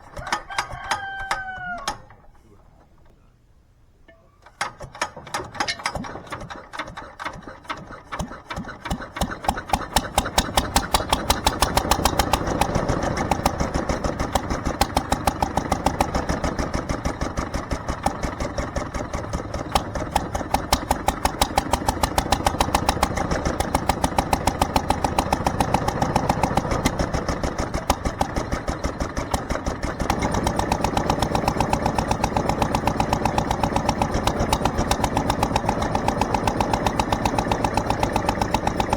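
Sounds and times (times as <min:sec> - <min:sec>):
single-cylinder engine running: 0:04.6 - 0:38.9.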